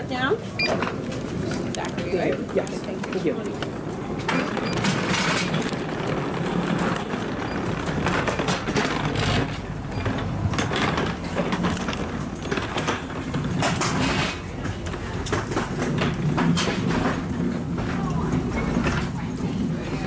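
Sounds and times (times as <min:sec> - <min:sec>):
suitcase wheels rolling: 0:00.0 - 0:20.0.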